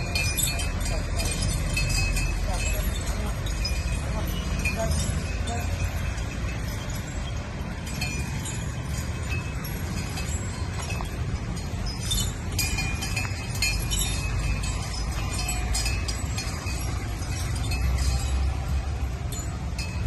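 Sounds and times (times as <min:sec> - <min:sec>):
low background rumble: 0:00.0 - 0:20.0
metallic clinking and jingling: 0:00.0 - 0:20.0.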